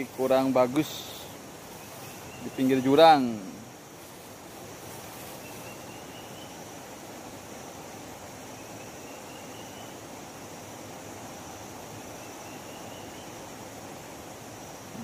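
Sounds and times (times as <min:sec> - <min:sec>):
forest noise haze: 0:00.0 - 0:15.0
high insect drone: 0:00.0 - 0:15.0.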